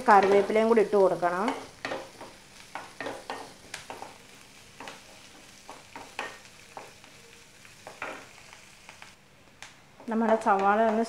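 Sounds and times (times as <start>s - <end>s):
onions sizzling in oil: 0.0s - 9.2s, 10.0s - 11.0s.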